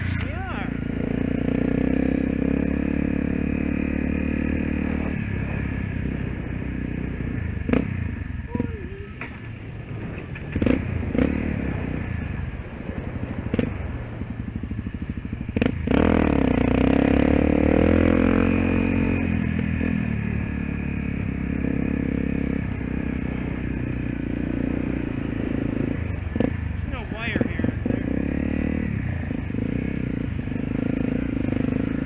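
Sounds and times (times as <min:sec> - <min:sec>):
dirt bike engine revving: 0:00.0 - 0:08.8, 0:10.0 - 0:12.2, 0:15.4 - 0:32.0.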